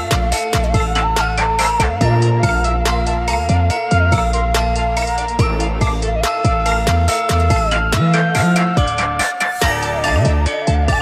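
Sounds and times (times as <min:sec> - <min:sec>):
electronic dance music: 0:00.0 - 0:11.0
sliding bass notes: 0:00.0 - 0:11.0.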